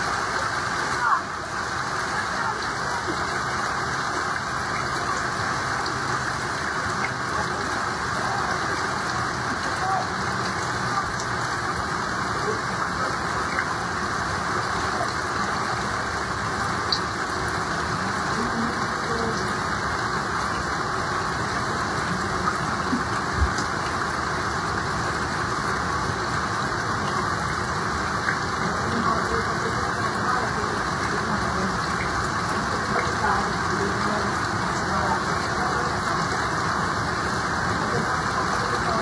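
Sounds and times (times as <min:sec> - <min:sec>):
heavy rain: 0:00.0 - 0:39.0
rushing floodwater: 0:00.0 - 0:39.0.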